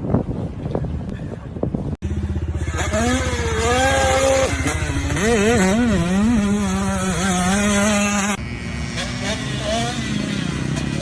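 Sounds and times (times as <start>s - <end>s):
motorcycle engine revving: 2.0s - 11.0s.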